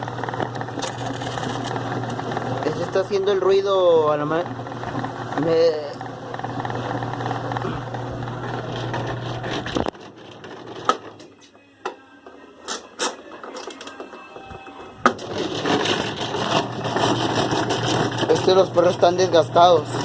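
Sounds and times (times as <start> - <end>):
washing machine running: 0.0 - 11.4, 14.6 - 20.0.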